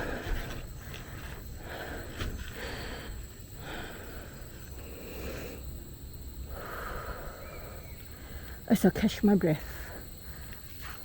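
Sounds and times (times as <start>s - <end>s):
woman breathing heavily: 0.0s - 8.7s, 9.7s - 11.0s.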